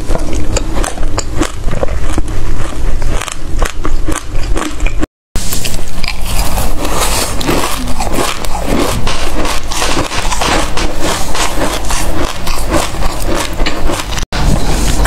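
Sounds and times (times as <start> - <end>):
chewing crunchy seeds: 0.0 - 14.3.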